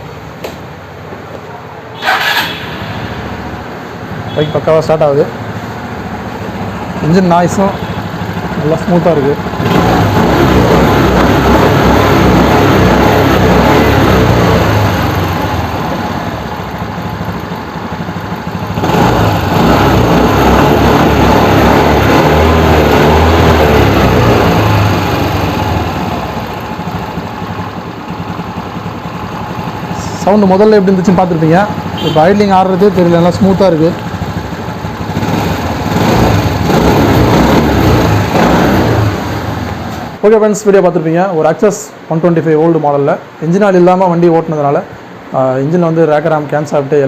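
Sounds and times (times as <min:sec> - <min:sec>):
scooter engine running: 0:02.0 - 0:40.2.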